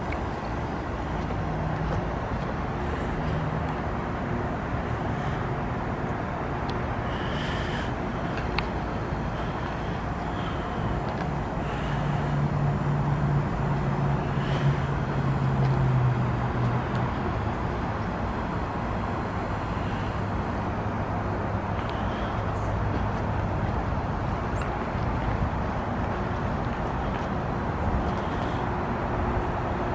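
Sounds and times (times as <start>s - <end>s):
heat pump mechanical hum: 0.0s - 29.9s.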